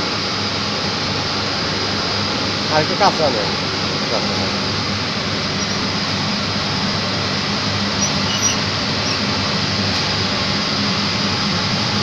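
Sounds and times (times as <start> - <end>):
chiller burner low hum: 0.0 - 12.0.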